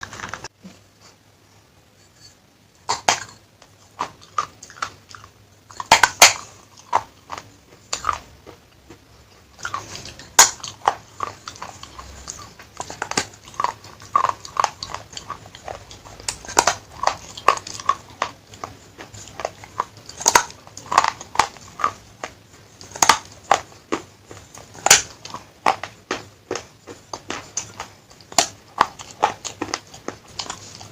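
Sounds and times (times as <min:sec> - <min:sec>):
person chewing crunchy clay: 0:02.2 - 0:30.9.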